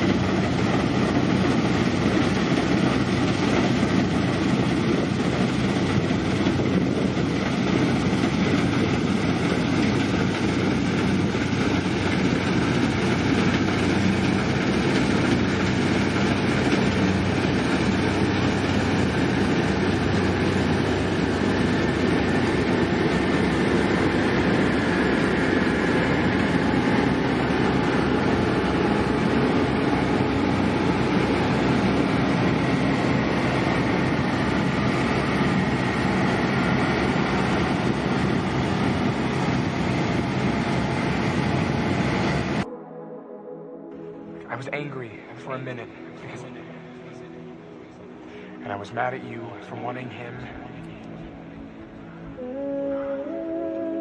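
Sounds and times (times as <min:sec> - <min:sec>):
combine harvester running: 0:00.0 - 0:42.7, 0:43.9 - 0:52.5.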